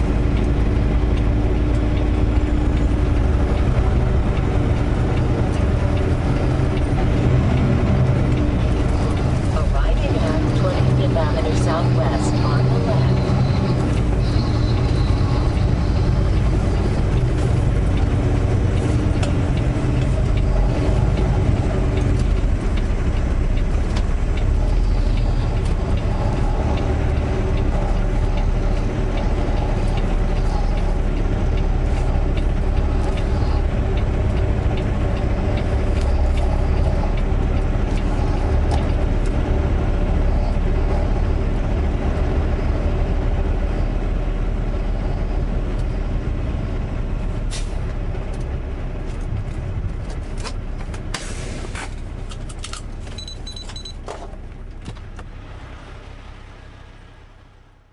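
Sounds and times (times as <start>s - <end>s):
diesel truck engine running: 0.0s - 57.9s.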